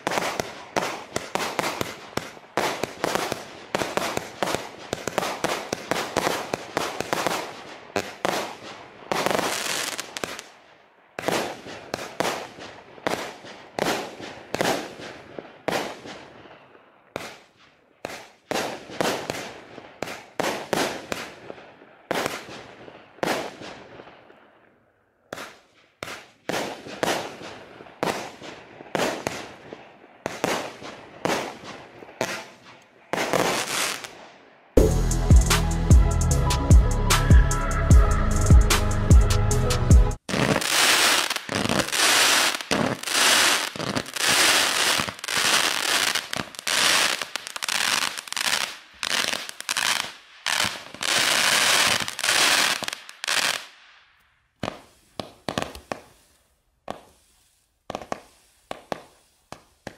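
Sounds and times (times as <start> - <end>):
fireworks bangs and bursts: 0.0 - 10.6, 11.2 - 24.5, 25.3 - 35.0, 40.2 - 53.8, 54.6 - 59.9.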